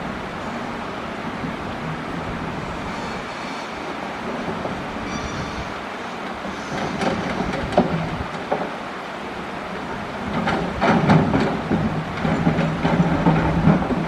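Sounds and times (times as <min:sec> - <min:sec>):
excavator engine and hydraulics: 0:00.0 - 0:14.0.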